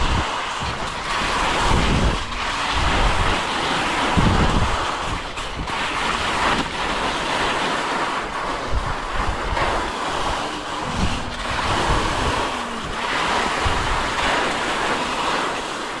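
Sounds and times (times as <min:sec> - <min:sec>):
wind blowing across microphone: 0:00.0 - 0:16.0.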